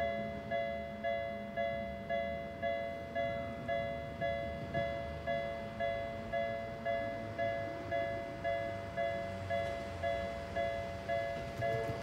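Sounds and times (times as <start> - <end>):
level-crossing alarm bell: 0.0 - 12.0.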